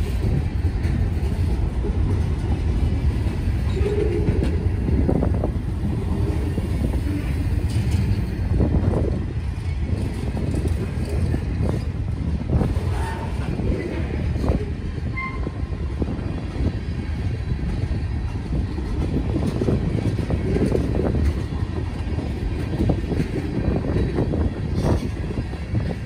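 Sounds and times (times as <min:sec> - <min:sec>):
steel wheels rumbling on rail: 0:00.0 - 0:26.0
train cars clicking and clanking: 0:00.0 - 0:26.0.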